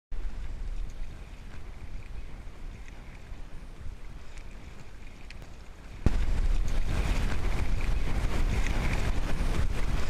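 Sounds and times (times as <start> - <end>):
wind buffeting microphone: 0.2 - 10.0.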